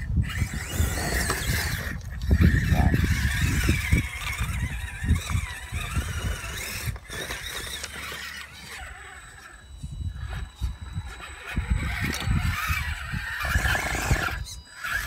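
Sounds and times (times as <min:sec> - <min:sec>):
electric motors whining: 0:00.0 - 0:15.0
wind rumbling on the microphone: 0:00.0 - 0:15.0.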